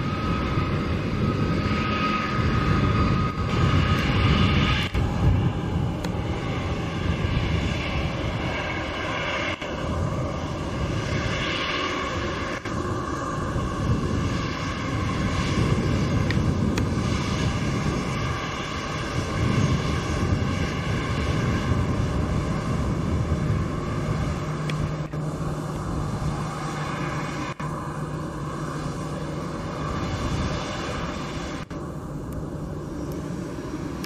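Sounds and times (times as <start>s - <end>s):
jet engines whining: 0.0s - 34.0s.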